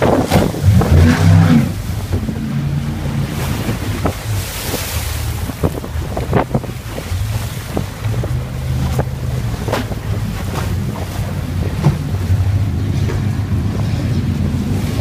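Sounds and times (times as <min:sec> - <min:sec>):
hull slapping on waves: 0:00.0 - 0:15.0
powerboat engine running: 0:00.0 - 0:15.0
wind buffeting microphone: 0:00.0 - 0:15.0.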